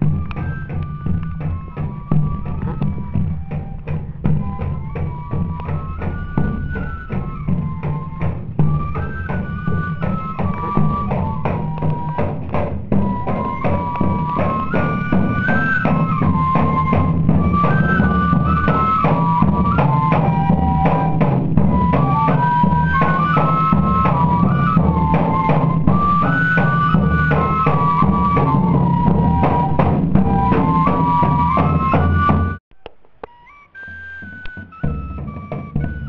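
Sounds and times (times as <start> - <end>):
busy drumming: 0.0 - 36.0
fife melody: 0.0 - 36.0.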